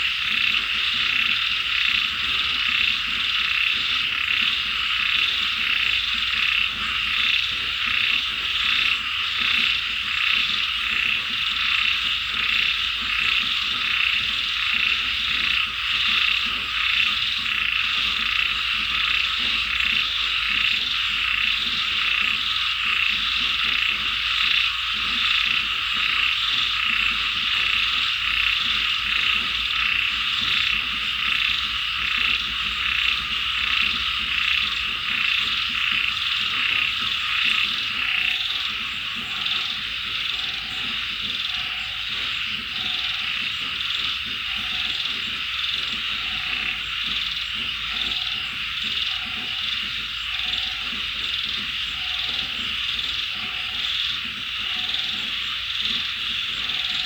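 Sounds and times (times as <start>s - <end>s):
frogs croaking: 0.0s - 57.0s.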